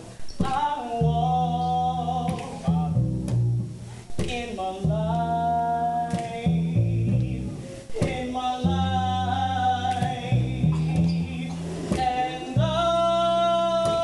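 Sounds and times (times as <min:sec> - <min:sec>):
plucked double bass: 0:00.4 - 0:14.0.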